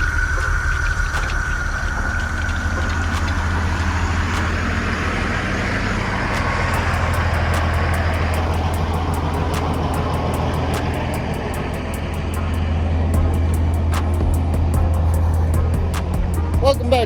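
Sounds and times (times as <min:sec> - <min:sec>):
fast ticking: 0:00.0 - 0:17.0
rushing noise: 0:00.0 - 0:17.0
truck diesel engine droning: 0:00.0 - 0:17.0.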